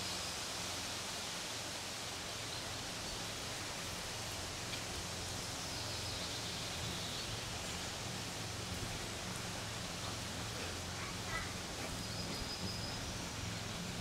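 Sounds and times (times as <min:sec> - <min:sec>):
rustling hiss: 0:00.0 - 0:14.0.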